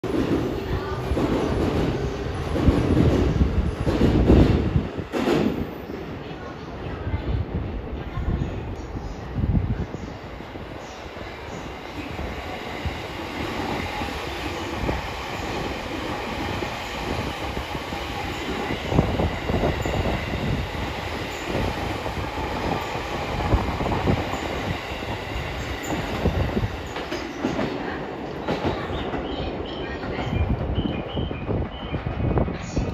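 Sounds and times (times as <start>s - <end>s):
train wheels rumbling on rail: 0.0s - 32.9s.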